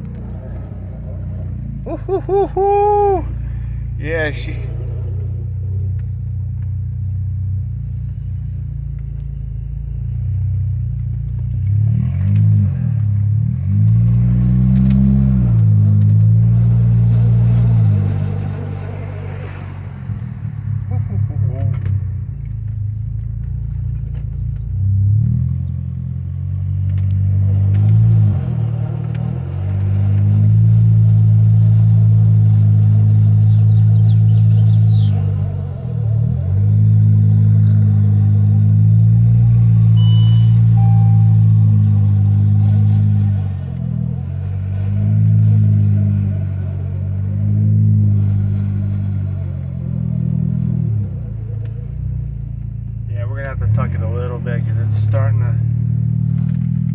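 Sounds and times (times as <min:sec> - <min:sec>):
car engine running and revving: 0:00.0 - 0:56.9.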